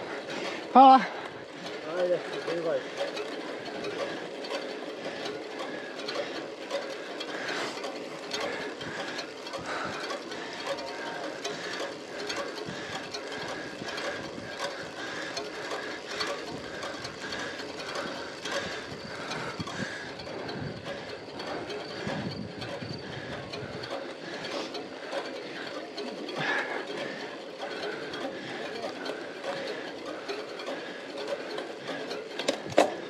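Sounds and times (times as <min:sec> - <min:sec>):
bike chain whirring and ticking: 0:00.0 - 0:33.0.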